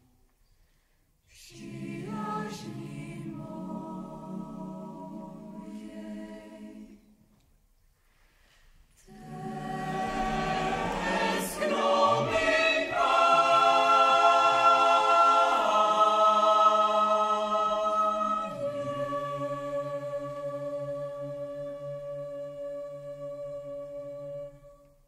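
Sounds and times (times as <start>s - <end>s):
mixed choir singing a cappella: 1.3s - 7.2s, 9.0s - 25.0s.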